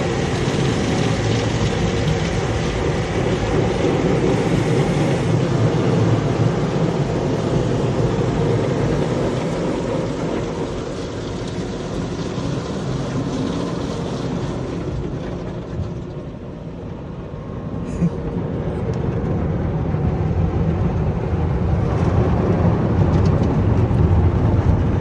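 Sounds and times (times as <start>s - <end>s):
car wash machinery rushing: 0.0s - 25.0s.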